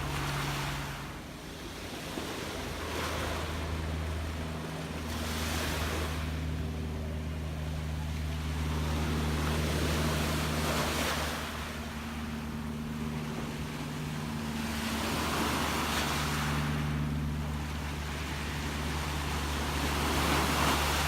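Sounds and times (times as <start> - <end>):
sea waves washing in: 0.0 - 21.0
steady low hum: 0.0 - 21.0.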